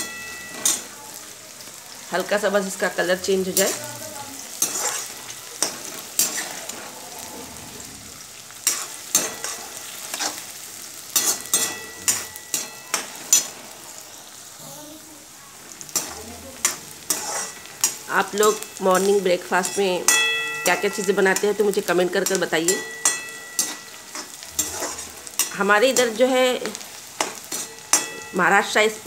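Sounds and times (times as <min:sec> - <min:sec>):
steel spatula scraping a pan: 0:00.0 - 0:01.2, 0:02.8 - 0:14.3, 0:15.8 - 0:29.0
onions sizzling in hot oil: 0:00.0 - 0:29.0.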